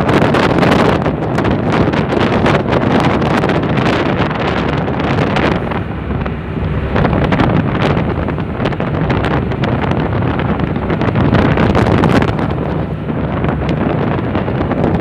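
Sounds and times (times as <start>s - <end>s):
churning water along hull: 0.0s - 15.0s
wind buffeting microphone: 0.0s - 15.0s.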